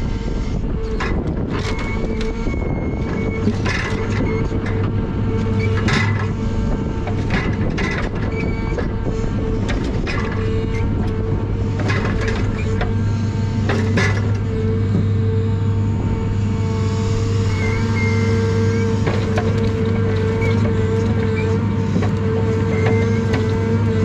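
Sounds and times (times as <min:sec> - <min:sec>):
diesel engine running under load: 0:00.0 - 0:24.0
high hydraulic whine: 0:00.0 - 0:24.0
crane knocks and clunks: 0:00.1 - 0:24.0.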